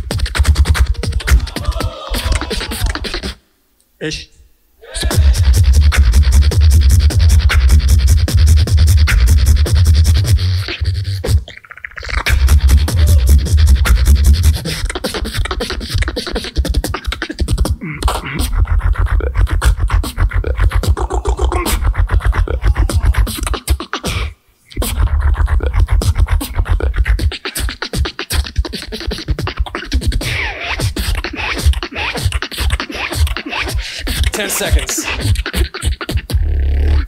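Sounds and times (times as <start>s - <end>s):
beatboxing: 0.0s - 3.4s, 4.8s - 37.0s.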